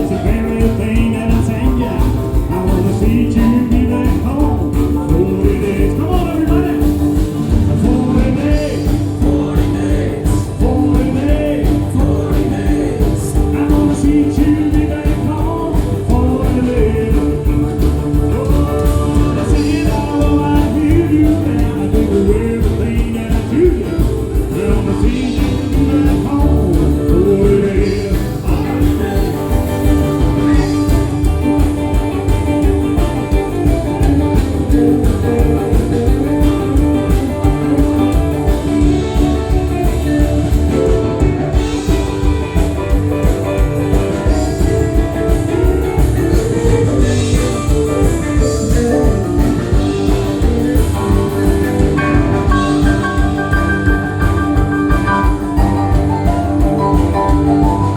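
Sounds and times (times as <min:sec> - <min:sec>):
electric guitar melody: 0:00.0 - 0:57.9
rock and roll band playing: 0:00.0 - 0:57.9.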